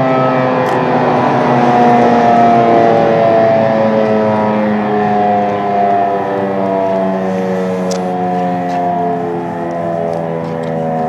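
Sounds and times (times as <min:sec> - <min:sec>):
warning siren held note: 0:00.0 - 0:11.0.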